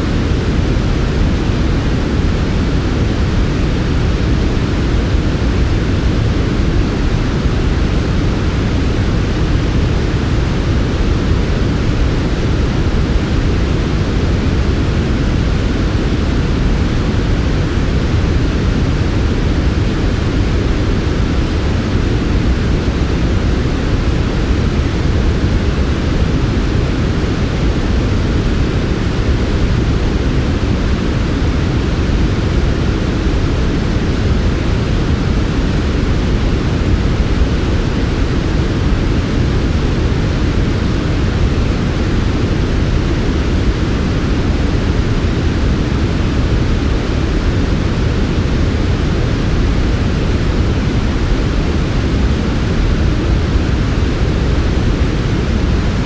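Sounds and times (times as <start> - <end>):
deep white noise rush: 0.0 - 56.0.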